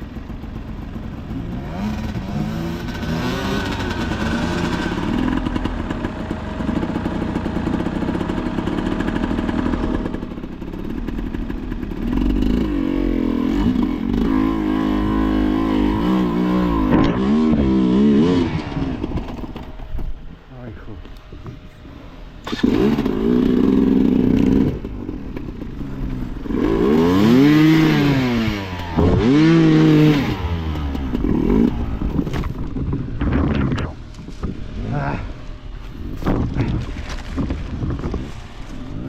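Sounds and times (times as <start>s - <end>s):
motorcycle engine revving: 0.0s - 20.3s, 22.4s - 39.0s.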